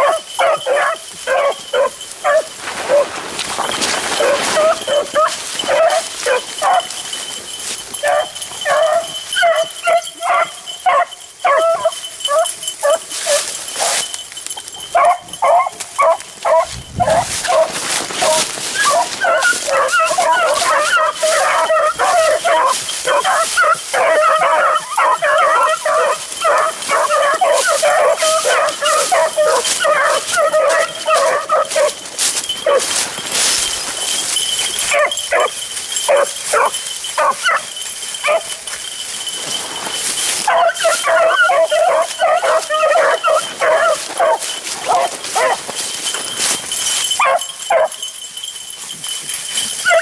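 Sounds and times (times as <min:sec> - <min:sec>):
dogs barking and yipping: 0:00.0 - 0:50.0
hounds baying: 0:00.0 - 0:50.0.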